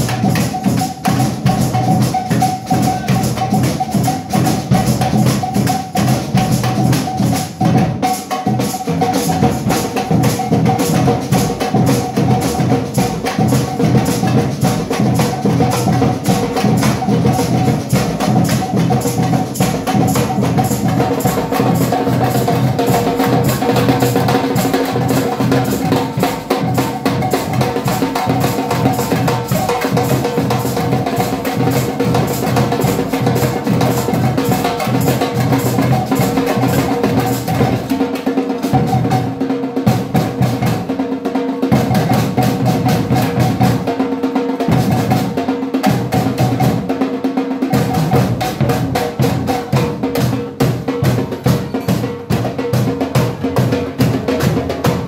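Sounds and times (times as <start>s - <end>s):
samba percussion band: 0.0s - 55.0s.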